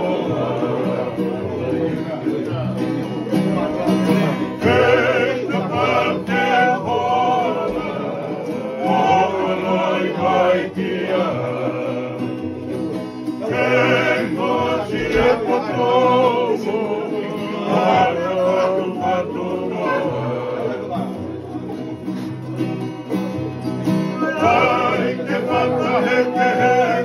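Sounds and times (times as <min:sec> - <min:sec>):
men singing together: 0:00.0 - 0:02.2, 0:04.0 - 0:21.4, 0:24.1 - 0:27.0
plucked string instrument: 0:00.0 - 0:27.0
strummed acoustic guitars: 0:00.0 - 0:27.0.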